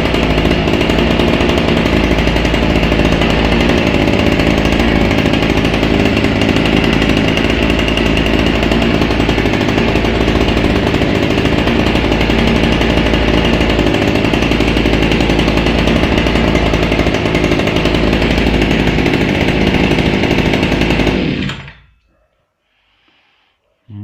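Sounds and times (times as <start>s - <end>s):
small two-stroke engine running: 0.0s - 21.9s.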